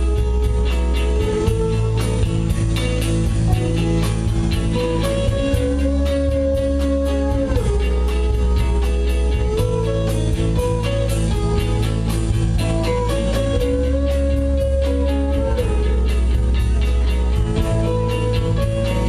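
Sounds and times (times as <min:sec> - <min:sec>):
electric guitar sustained lead notes: 0:00.0 - 0:19.0
steady cymbal beat: 0:00.0 - 0:19.0
sustained bass: 0:00.0 - 0:19.0.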